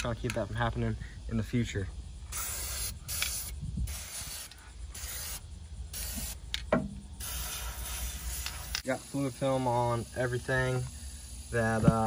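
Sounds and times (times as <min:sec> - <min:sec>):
aerosol spray hissing: 0:02.2 - 0:12.0.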